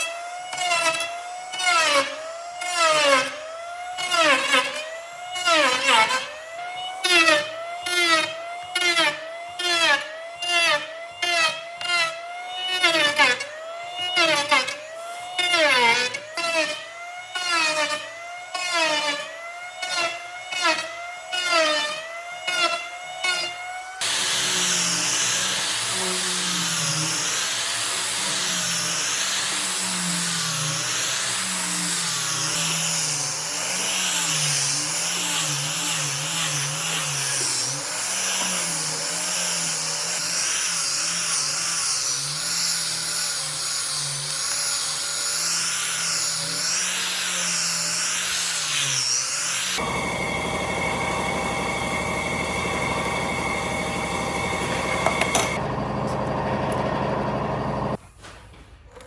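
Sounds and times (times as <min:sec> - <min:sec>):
power tool working wood: 0:00.0 - 0:58.0.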